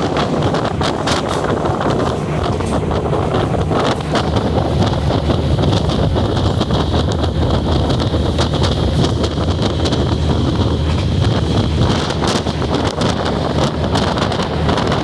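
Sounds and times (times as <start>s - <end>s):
train rattles and clicks: 0.0s - 15.0s
train rumbling: 0.0s - 15.0s
wind buffeting microphone: 0.0s - 15.0s.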